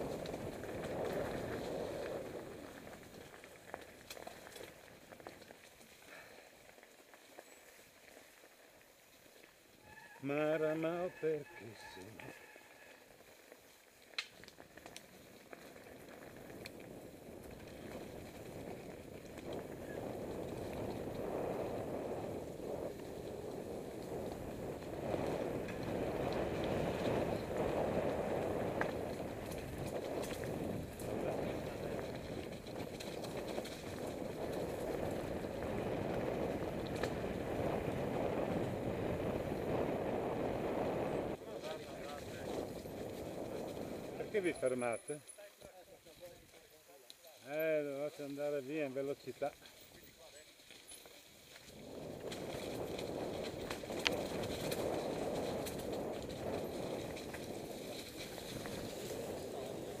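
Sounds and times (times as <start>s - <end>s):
bike clicks and rattles: 0.0s - 9.6s, 13.2s - 40.8s, 41.6s - 47.4s, 49.4s - 60.0s
bike tyres rumbling over dirt: 0.0s - 10.9s, 13.0s - 45.0s, 46.0s - 60.0s.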